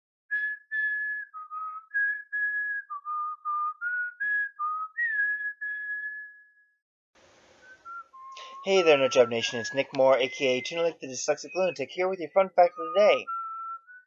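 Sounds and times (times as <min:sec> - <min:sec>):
person whistling a tune: 0:00.3 - 0:06.7, 0:07.6 - 0:14.0.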